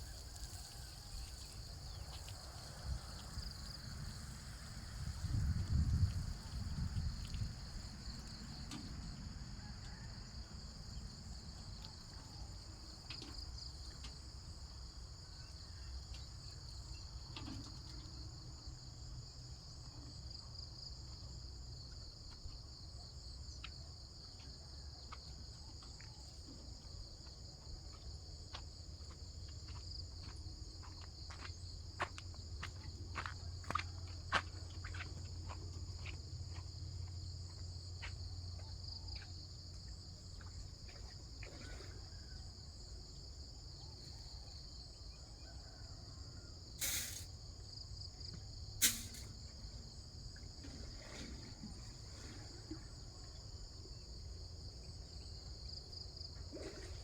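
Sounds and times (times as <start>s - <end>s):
insect chorus chirring: 0.0s - 24.5s, 26.0s - 57.0s.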